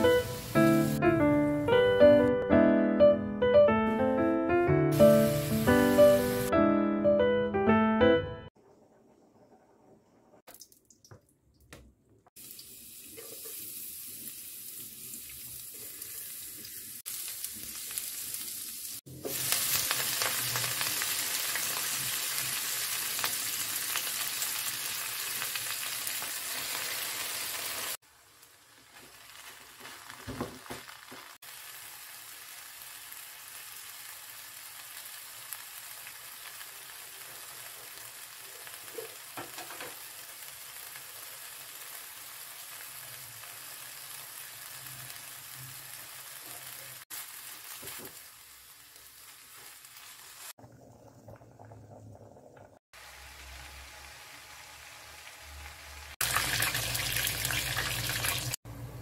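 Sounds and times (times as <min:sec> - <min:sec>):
oil sizzling in a pan: 0:00.0 - 0:01.8, 0:04.9 - 0:06.5, 0:12.3 - 0:59.0.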